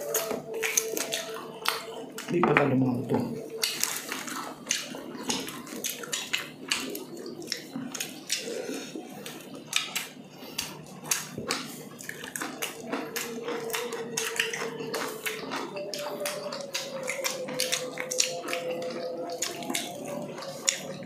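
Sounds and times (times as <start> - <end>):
chewing and lip smacking: 0.0 - 21.0.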